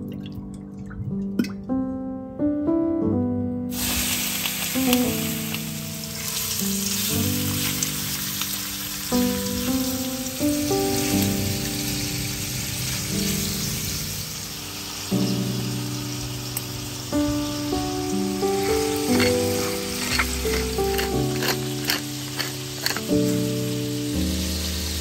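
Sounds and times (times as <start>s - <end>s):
gentle background music: 0.0s - 25.0s
shrimp sizzling in oil: 3.7s - 25.0s.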